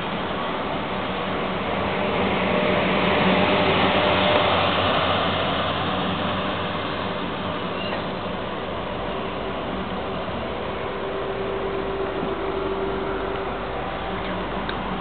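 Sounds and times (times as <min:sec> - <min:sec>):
train passing slowly: 0:00.0 - 0:15.0.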